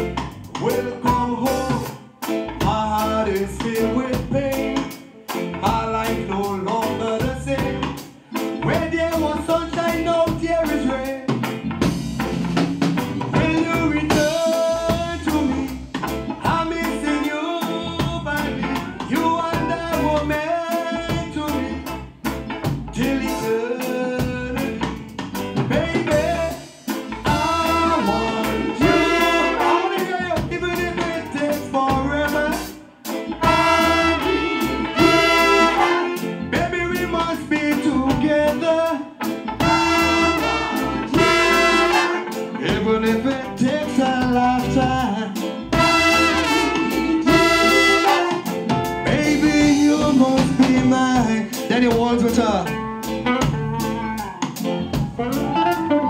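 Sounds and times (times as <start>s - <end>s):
live band playing upbeat song: 0.0s - 56.0s
man singing into a microphone: 0.6s - 11.4s, 13.3s - 21.9s, 22.8s - 32.8s, 33.4s - 56.0s.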